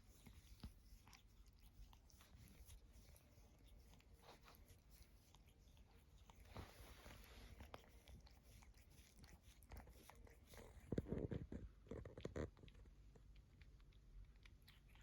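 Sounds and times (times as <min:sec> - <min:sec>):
cat licking its fur: 0:00.0 - 0:15.0.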